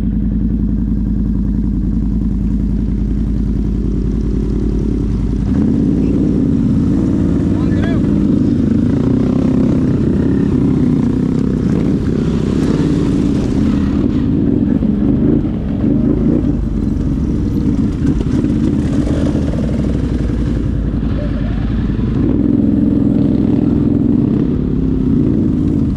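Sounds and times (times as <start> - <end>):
atv engine running: 0.0 - 25.9.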